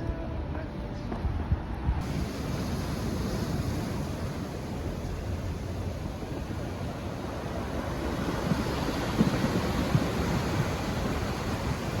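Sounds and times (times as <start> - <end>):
wind buffeting microphone: 0.0 - 12.0
wind rushing: 1.1 - 12.0
sea surf: 1.6 - 12.0.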